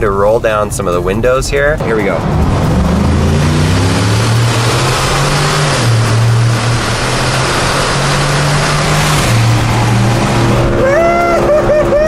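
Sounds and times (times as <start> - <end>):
road and wind noise: 0.0 - 12.0
car engine revving: 0.5 - 12.0.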